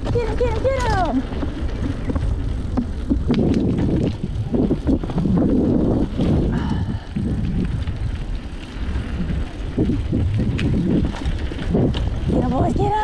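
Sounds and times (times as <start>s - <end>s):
bike rattling clicks: 0.0s - 13.0s
tyres crunching over dirt: 0.0s - 13.0s
wind buffeting microphone: 0.0s - 13.0s.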